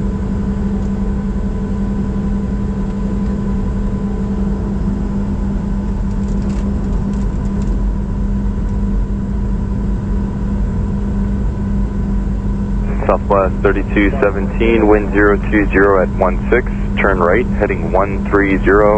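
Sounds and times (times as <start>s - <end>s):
aircraft cabin drone: 0.1s - 18.9s.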